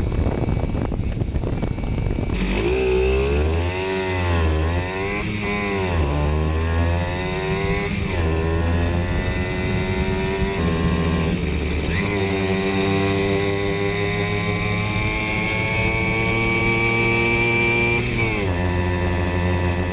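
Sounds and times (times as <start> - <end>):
two-stroke moped engine revving: 2.3 - 19.9.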